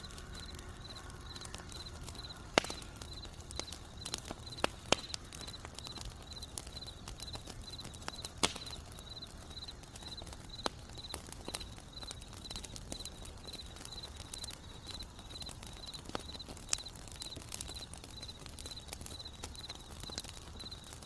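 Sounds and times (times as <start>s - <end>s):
insects chirping: 0.0s - 21.0s
wood fire crackling: 0.0s - 21.0s.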